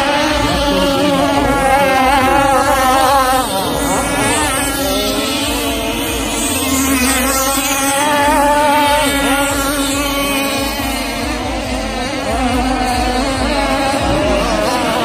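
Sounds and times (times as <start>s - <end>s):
racing boat engines whining: 0.0s - 15.0s.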